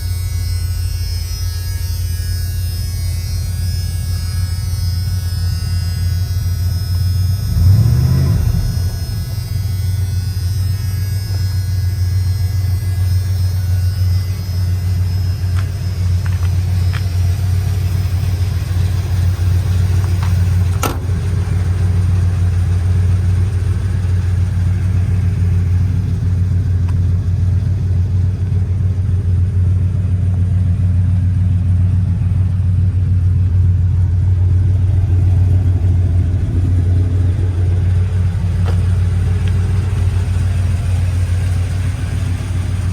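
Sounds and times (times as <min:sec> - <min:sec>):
truck engine rumbling: 0:00.0 - 0:42.9.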